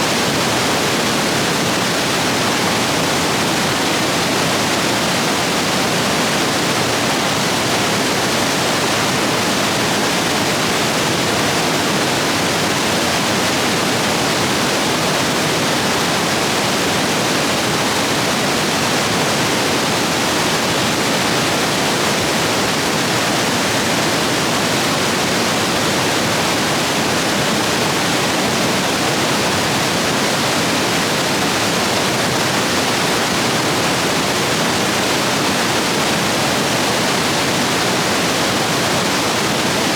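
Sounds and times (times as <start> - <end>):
rushing rapids roar: 0.0 - 39.9.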